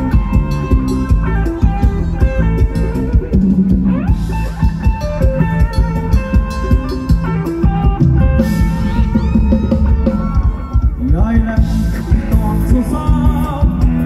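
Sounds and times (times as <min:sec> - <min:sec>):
drum kit steady beat: 0:00.0 - 0:14.0.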